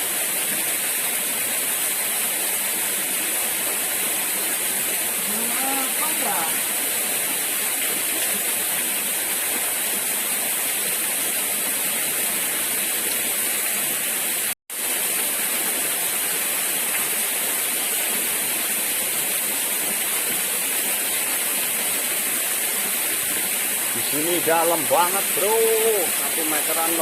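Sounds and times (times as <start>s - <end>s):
flowing water rushing: 0.0s - 27.0s.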